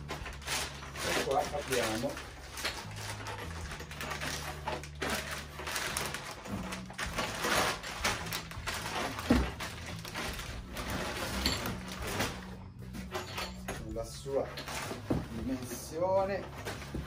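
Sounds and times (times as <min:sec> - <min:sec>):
plastic bag rustling and crinkling: 0:00.0 - 0:17.0.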